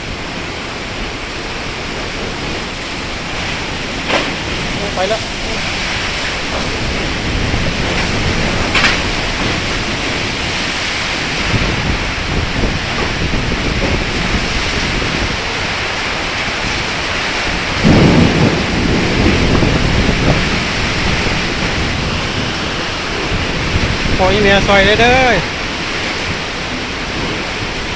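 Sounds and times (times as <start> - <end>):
heavy rain pouring: 0.0 - 27.9
thunder rumbling: 0.0 - 27.9.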